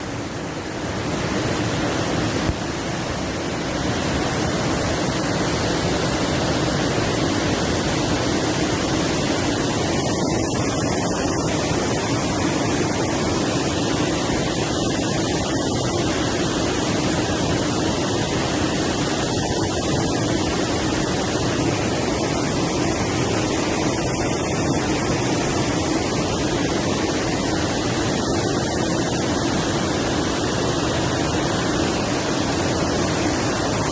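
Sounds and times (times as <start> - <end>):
waterfall and river rushing: 0.0 - 33.9.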